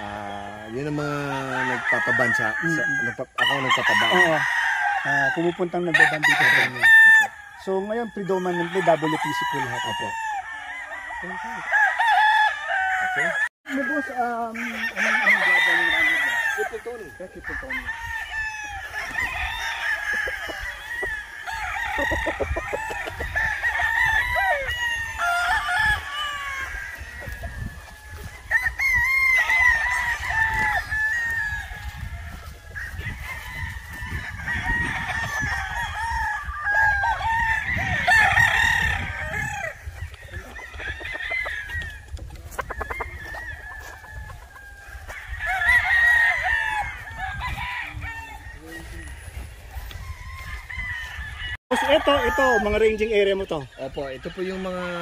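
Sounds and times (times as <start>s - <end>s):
roosters crowing: 0.0s - 55.0s.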